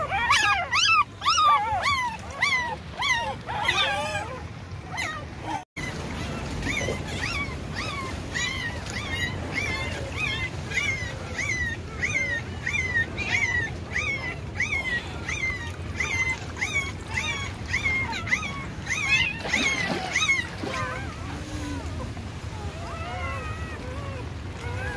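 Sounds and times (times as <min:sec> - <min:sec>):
puppy whimpering: 0:00.0 - 0:05.6, 0:06.2 - 0:24.9.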